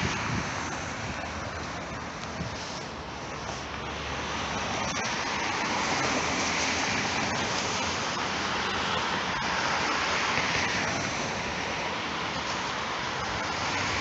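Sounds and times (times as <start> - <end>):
street traffic rushing: 0.0 - 14.0
tram rolling along rails: 0.0 - 14.0.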